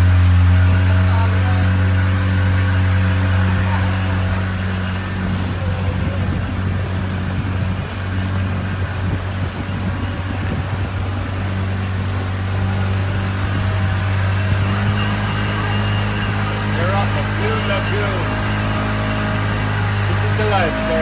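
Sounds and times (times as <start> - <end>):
motorboat engine humming: 0.0 - 21.0.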